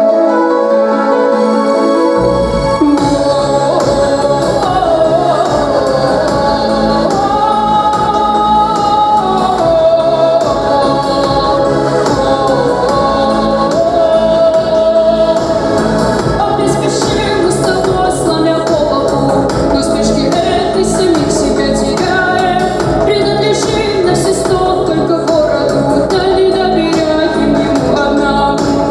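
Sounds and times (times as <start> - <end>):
choir-like voices holding notes: 0.0 - 26.8
steady musical accompaniment: 0.0 - 28.9.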